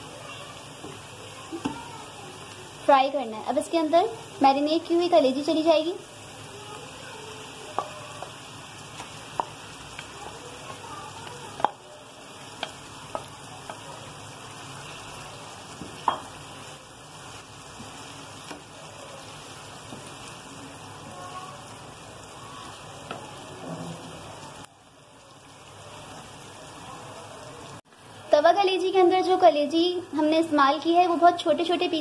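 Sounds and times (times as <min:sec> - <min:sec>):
liver sizzling in hot oil: 0:00.0 - 0:32.0.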